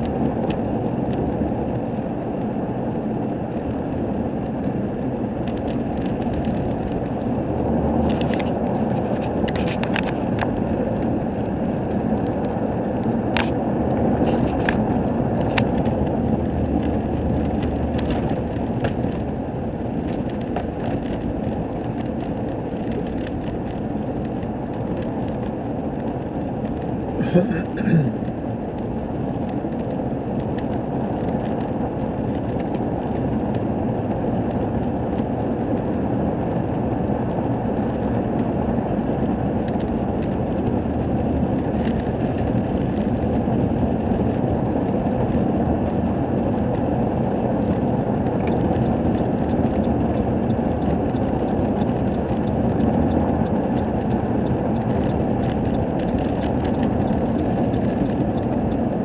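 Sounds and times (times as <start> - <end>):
truck engine and road drone: 0.0 - 59.0.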